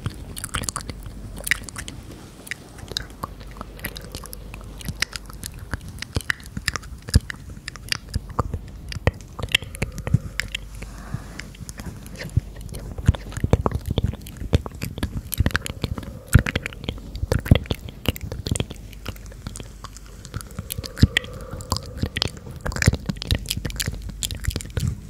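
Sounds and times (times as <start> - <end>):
mouth clicks and lip sounds: 0.0 - 25.0
person whispering: 2.6 - 7.1, 8.5 - 25.0.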